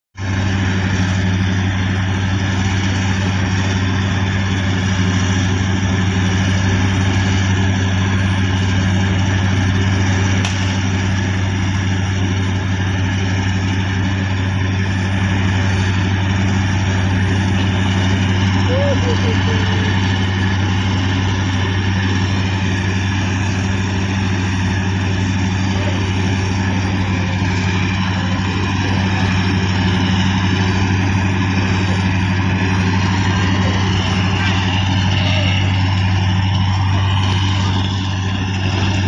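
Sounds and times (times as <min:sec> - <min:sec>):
ship diesel engines humming: 0:00.2 - 0:39.0.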